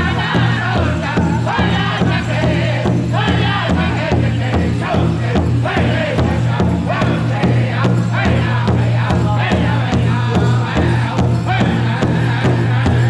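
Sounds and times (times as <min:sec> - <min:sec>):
big drum beat: 0:00.0 - 0:13.0
group singing wavering melody: 0:00.0 - 0:13.0.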